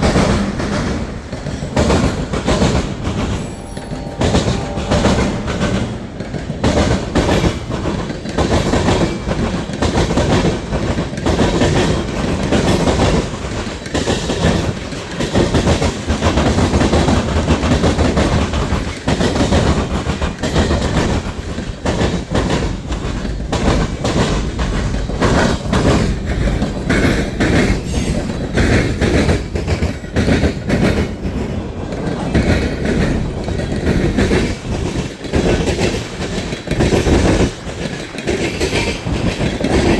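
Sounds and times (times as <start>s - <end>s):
freight train rumbling by: 0.0s - 39.9s
wheels clacking over rail joints: 6.0s - 39.9s.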